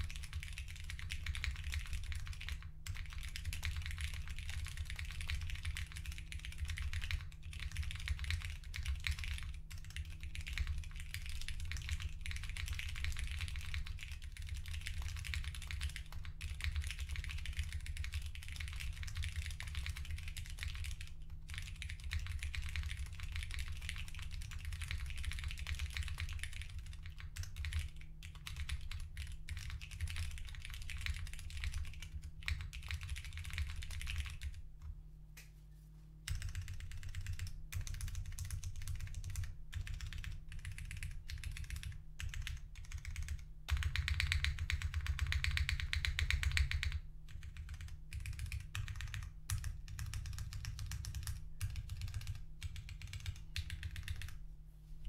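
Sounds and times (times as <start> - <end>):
fast mechanical keyboard typing: 0.0 - 34.6, 36.3 - 54.4.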